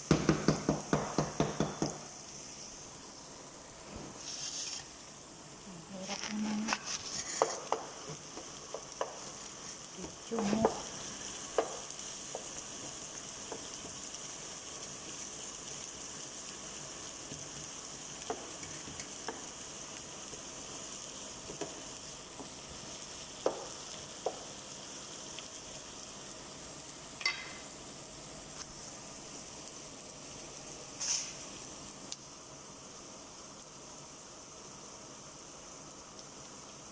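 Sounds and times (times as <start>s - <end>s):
onions sizzling in hot oil: 0.0s - 36.9s.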